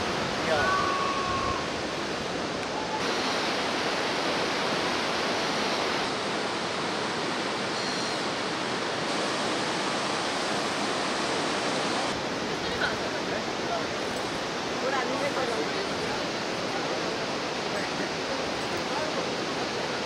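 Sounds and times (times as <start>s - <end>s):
whitewater river roaring: 0.0s - 20.0s.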